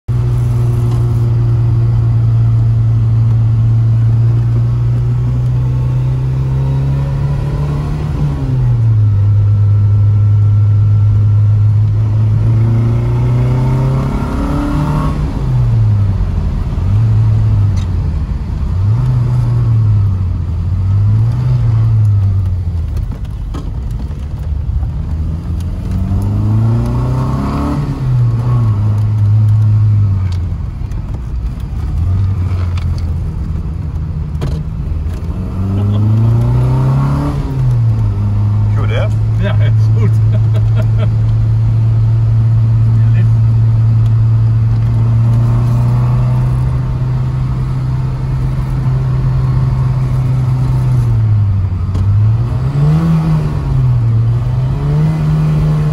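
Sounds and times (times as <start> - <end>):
car engine running: 0.1 - 55.9.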